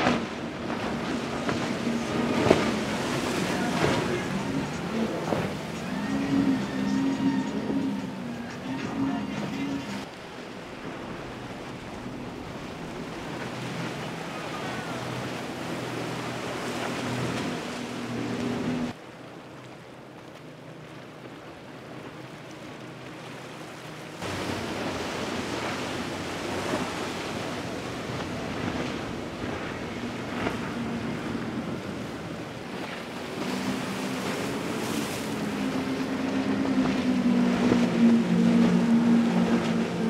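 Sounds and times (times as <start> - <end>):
hull spray and waves hissing: 0.0 - 19.0, 23.6 - 40.0
motorboat engine drone: 0.0 - 40.0.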